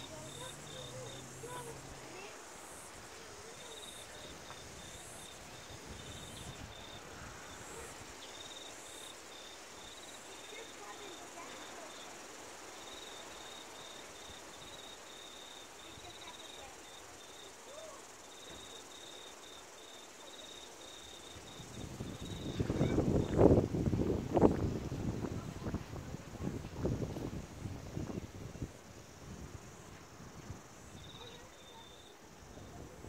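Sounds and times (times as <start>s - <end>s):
faint high cricket chirping: 0.0s - 33.0s.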